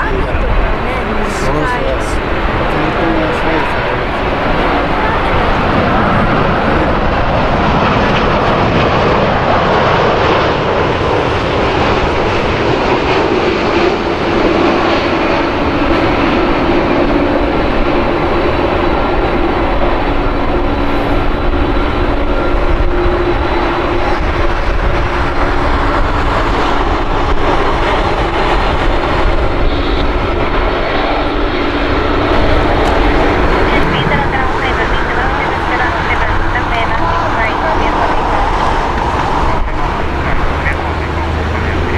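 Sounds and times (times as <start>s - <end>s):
jet airliner landing: 0.0s - 41.9s.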